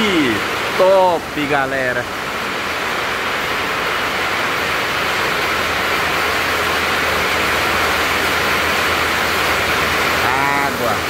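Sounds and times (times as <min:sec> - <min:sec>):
rain: 0:00.0 - 0:11.0
running water: 0:00.0 - 0:11.0.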